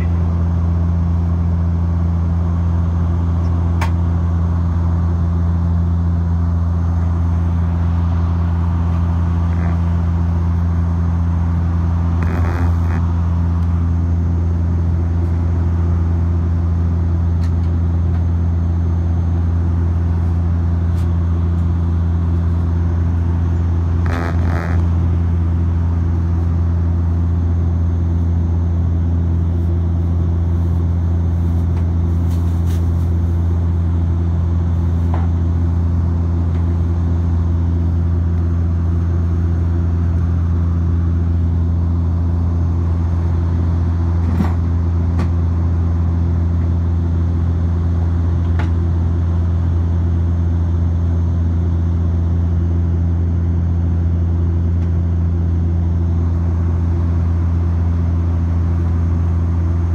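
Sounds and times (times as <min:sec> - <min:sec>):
deep propeller drone: 0:00.0 - 0:59.9
engine and airflow hiss: 0:00.0 - 0:59.9.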